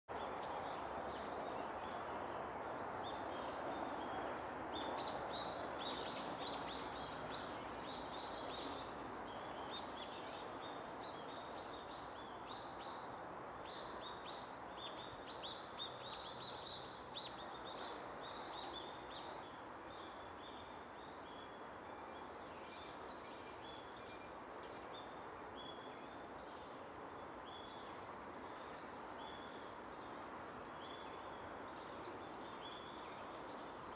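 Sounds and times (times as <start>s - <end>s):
outdoor ambient rush: 0.1s - 33.9s.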